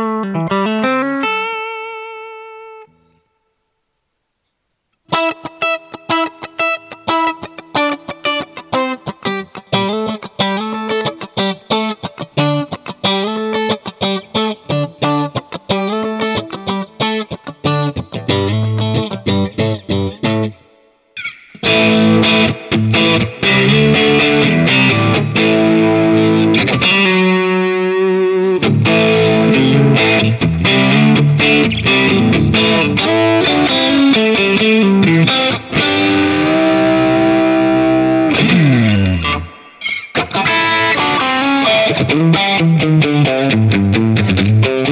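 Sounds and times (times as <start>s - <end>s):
distorted electric guitar: 0.0s - 3.3s, 5.1s - 44.9s.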